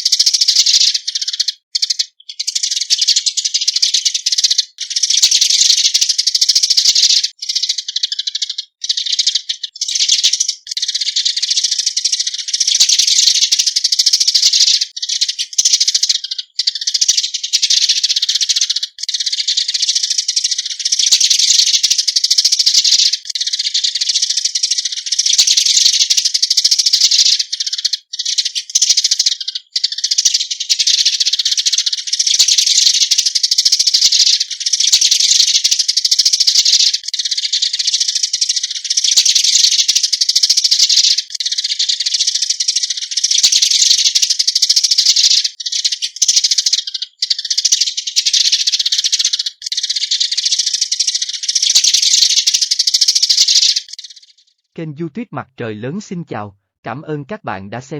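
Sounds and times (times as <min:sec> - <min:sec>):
sparrow flock chirping: 0:00.0 - 0:57.9.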